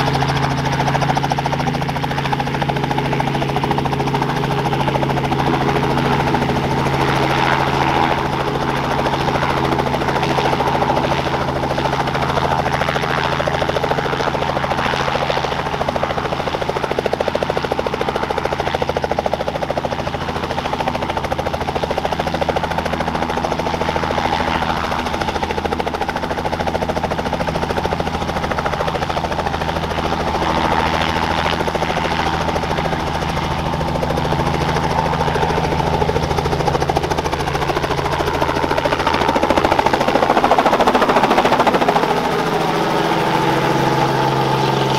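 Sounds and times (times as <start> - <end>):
helicopter taking off: 0.0 - 44.9.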